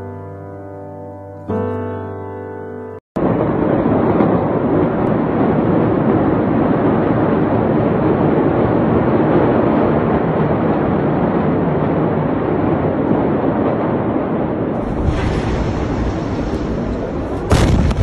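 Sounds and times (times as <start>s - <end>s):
loud rushing noise: 3.2s - 18.0s.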